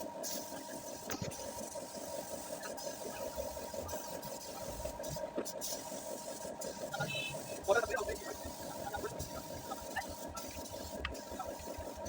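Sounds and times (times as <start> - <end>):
thin steady tone: 0.0 - 12.0
machine humming: 0.8 - 12.0.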